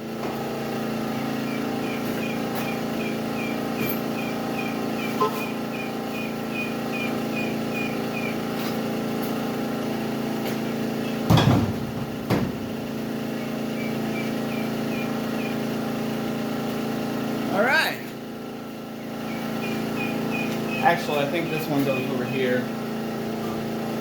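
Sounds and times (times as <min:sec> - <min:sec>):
portable generator humming: 0:00.0 - 0:24.0.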